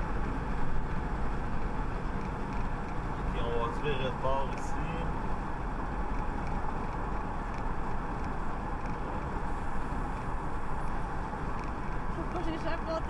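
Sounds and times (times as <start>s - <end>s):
tyres and engine rumble: 0.0s - 13.0s.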